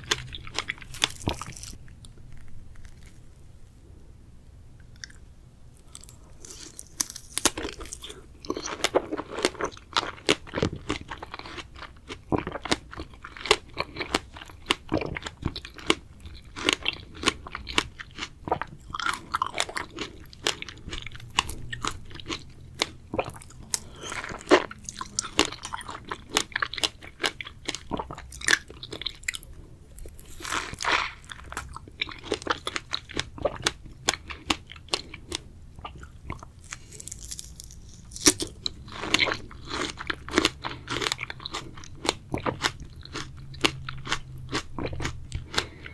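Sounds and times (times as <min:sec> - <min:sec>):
biting and chewing strawberries: 0:00.0 - 0:03.4, 0:04.9 - 0:45.9.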